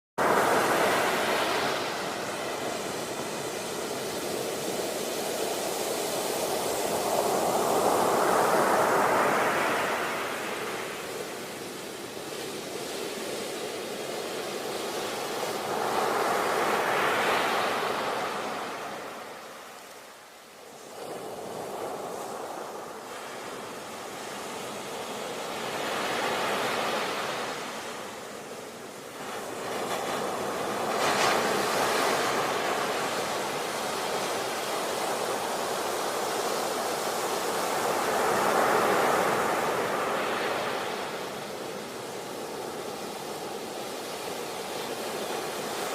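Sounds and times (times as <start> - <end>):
ocean waves breaking: 0.2 - 45.9.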